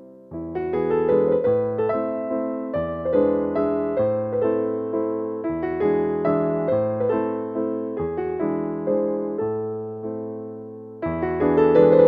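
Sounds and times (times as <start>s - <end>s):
piano-sounding keyboard melody: 0.0s - 12.0s.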